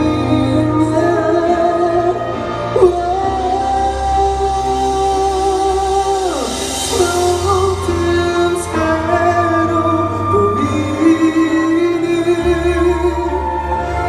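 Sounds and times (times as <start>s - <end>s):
person singing a ballad: 0.0s - 14.0s
steady bass: 0.0s - 14.0s.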